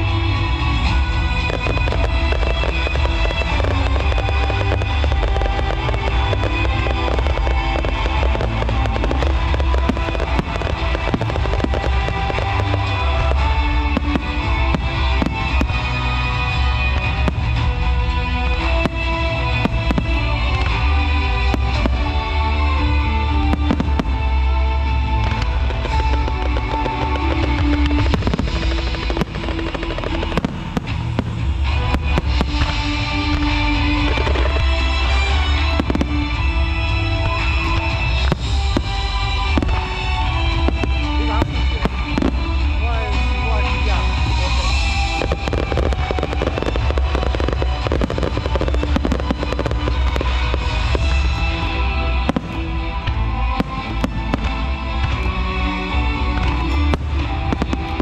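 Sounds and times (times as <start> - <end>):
fireworks crackling and popping: 0.0 - 58.0
music with heavy bass: 0.0 - 58.0.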